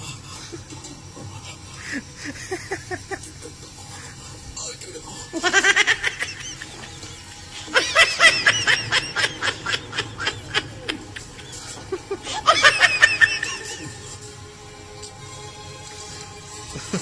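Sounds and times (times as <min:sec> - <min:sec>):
person laughing: 0:00.0 - 0:14.2, 0:16.7 - 0:17.0.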